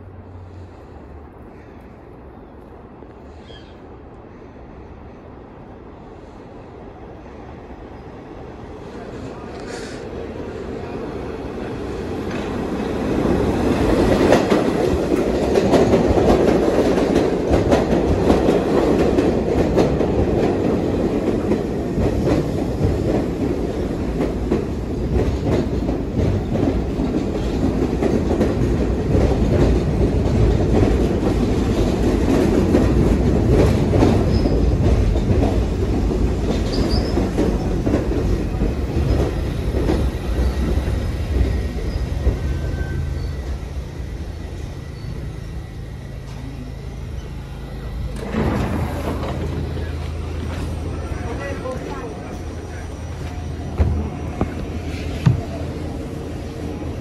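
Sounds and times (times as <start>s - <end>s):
subway train wheels clattering: 0.0s - 57.0s.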